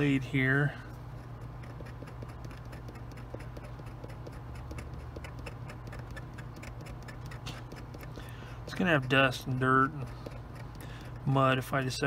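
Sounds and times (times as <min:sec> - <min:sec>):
steady low hum: 0:00.0 - 0:12.0
knife blade scraping plastic: 0:01.5 - 0:11.3.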